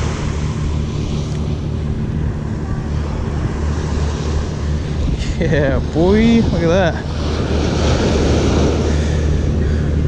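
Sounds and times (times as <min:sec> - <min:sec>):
surf washing on shore: 0:00.0 - 0:10.0.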